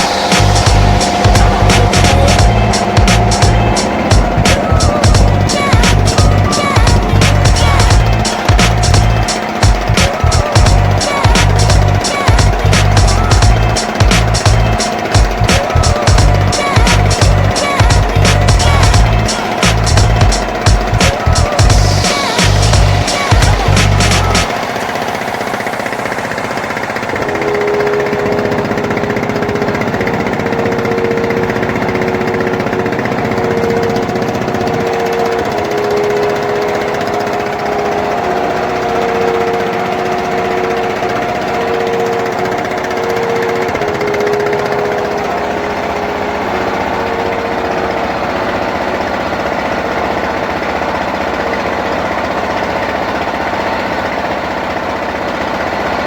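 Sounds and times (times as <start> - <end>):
engine droning hum: 0.0 - 56.0.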